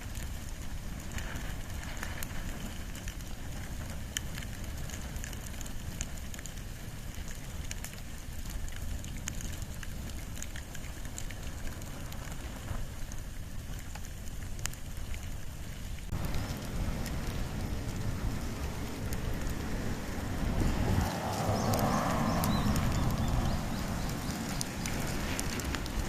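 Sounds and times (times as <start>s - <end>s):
fire crackling and popping: 0.0s - 26.0s
low rush of flames: 0.0s - 26.0s.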